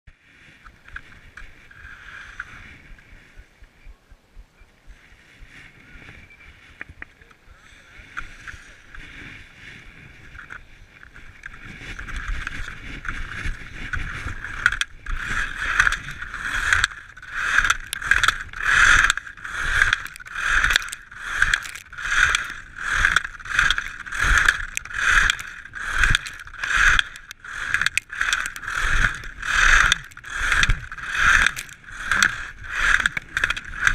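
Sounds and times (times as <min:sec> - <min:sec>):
skis hissing and scraping on snow: 0:00.2 - 0:03.4, 0:07.5 - 0:33.9.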